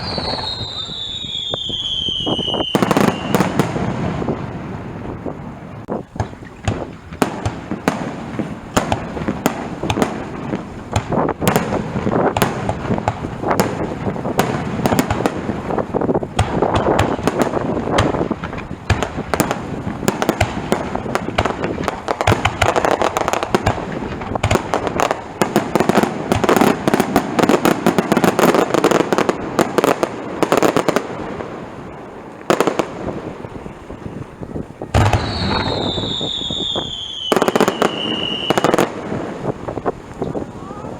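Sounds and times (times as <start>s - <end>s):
fireworks booming and crackling: 0.0s - 40.9s.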